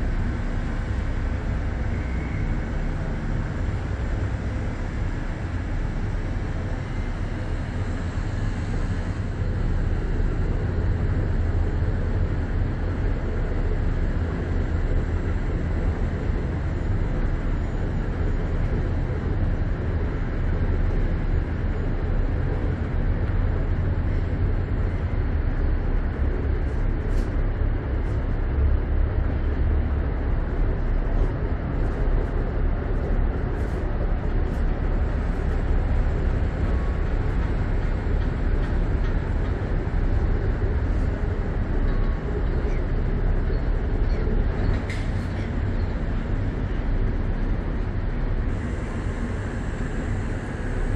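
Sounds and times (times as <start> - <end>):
low rumble of engines: 0.0 - 50.9.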